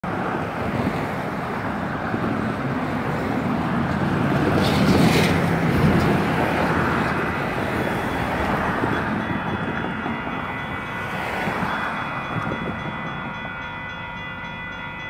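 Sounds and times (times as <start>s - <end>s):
road traffic passing: 0.0s - 15.0s
truck passing: 0.0s - 15.0s.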